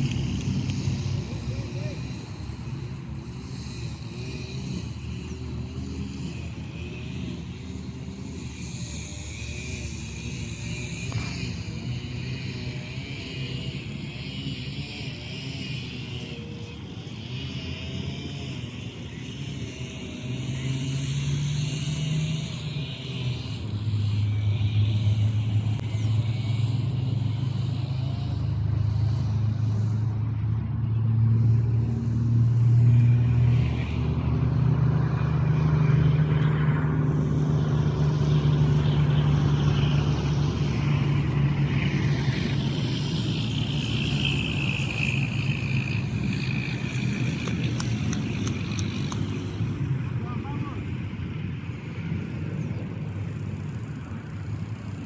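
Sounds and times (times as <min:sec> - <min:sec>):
motor vehicle engine running: 0:00.0 - 0:55.0.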